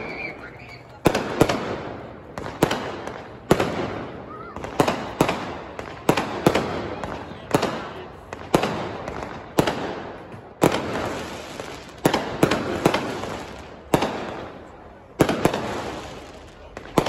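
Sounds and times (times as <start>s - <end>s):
firework crackle: 0.0s - 17.0s
fireworks bangs: 0.0s - 17.0s.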